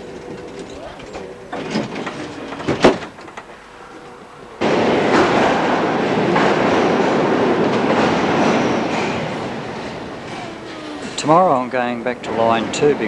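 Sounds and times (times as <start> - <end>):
rail car running along track: 0.0 - 13.0.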